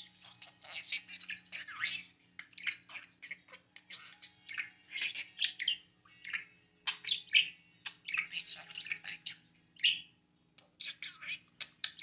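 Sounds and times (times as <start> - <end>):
parakeet chirping and warbling: 0.0 - 12.0.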